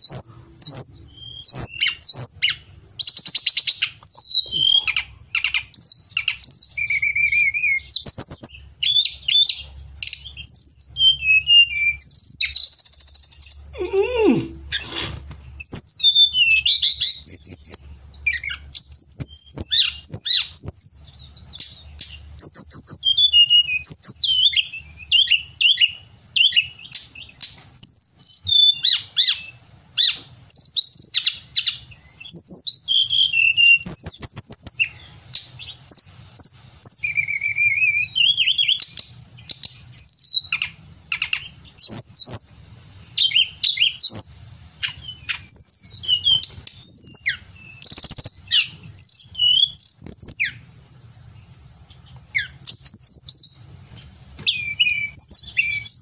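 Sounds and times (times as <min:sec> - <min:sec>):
bird singing trills and whistles: 0:00.0 - 0:50.7, 0:52.0 - 0:53.7, 0:54.4 - 0:56.0.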